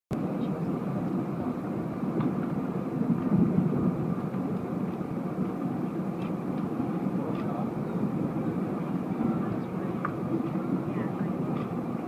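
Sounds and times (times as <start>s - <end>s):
city noise rumble: 0.1s - 12.0s.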